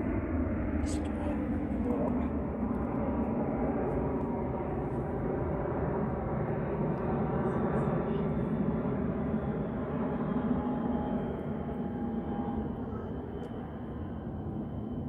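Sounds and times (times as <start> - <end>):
distant engine rumble with whine: 0.0 - 15.0.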